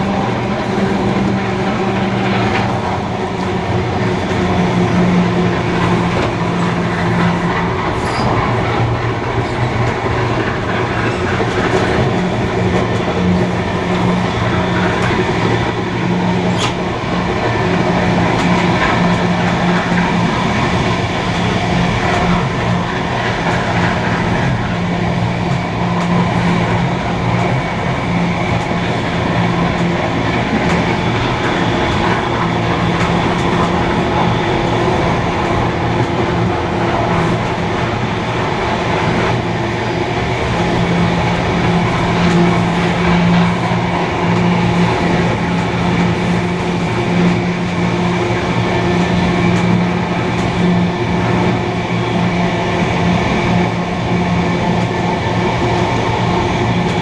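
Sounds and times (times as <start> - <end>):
train rolling on rails: 0.0 - 57.0.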